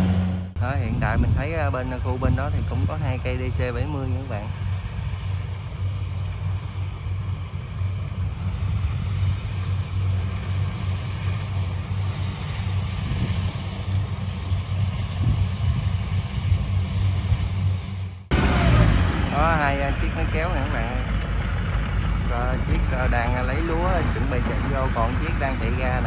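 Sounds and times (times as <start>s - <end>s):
combine harvester engine droning: 0.0s - 26.0s.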